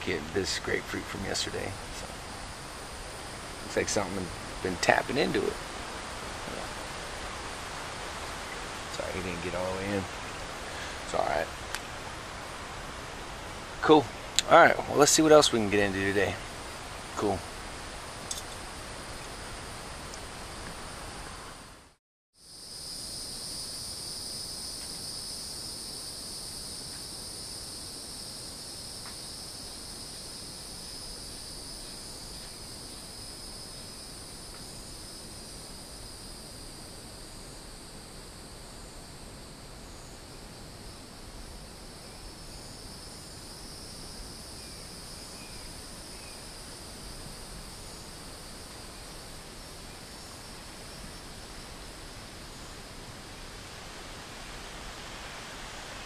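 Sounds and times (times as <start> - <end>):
insects droning: 0.0 - 56.0
soft outdoor hiss: 0.0 - 56.0.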